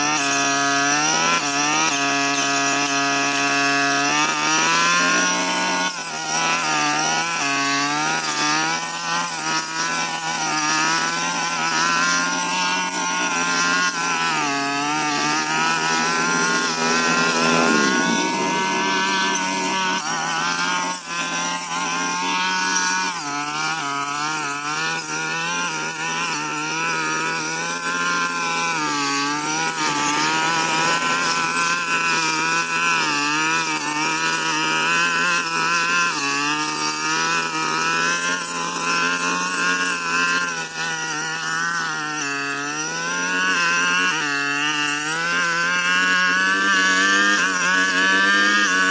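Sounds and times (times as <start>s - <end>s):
brush cutter engine at high revs: 0.0s - 48.9s.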